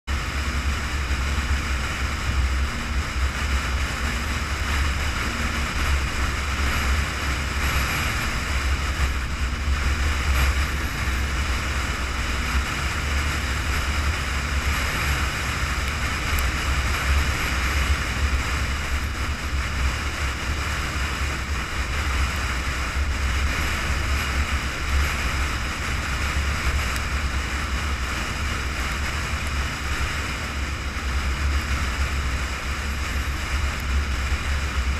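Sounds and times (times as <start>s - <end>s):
vehicle road and wind noise: 0.0s - 34.9s.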